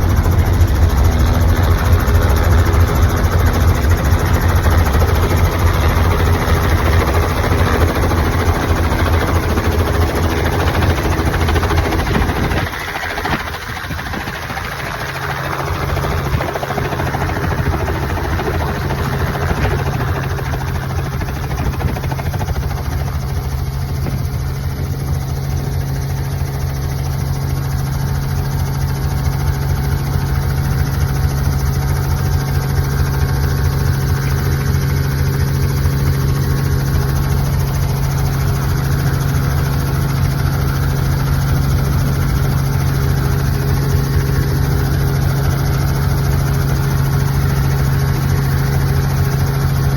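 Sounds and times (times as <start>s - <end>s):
large engine droning: 0.0s - 49.9s.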